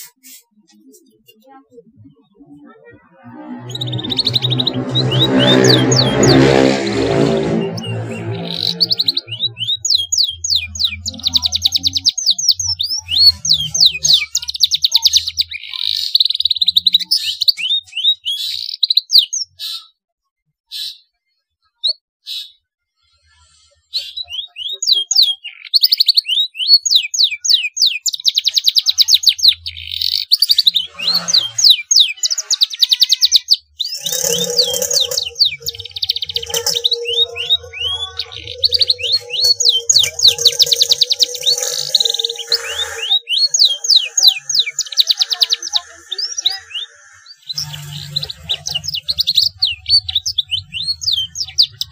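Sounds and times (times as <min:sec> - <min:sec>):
canary singing trills: 0:00.7 - 0:20.0, 0:23.9 - 0:51.9.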